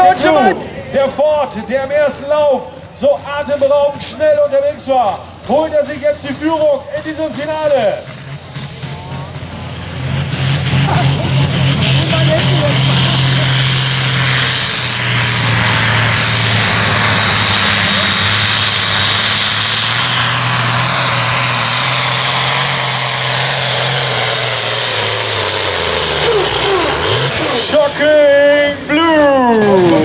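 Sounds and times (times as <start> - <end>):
tractor engine running flat out: 0.0 - 30.0.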